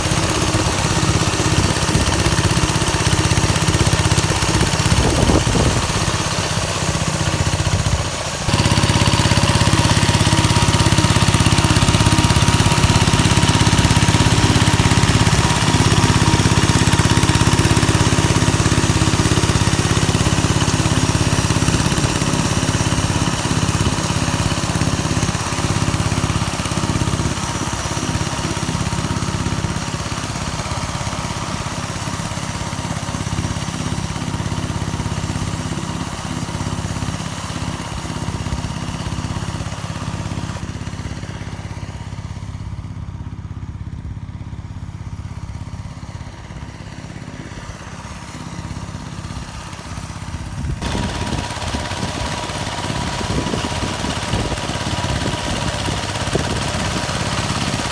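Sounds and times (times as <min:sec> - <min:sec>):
mini tractor engine tilling: 0:00.0 - 0:57.9.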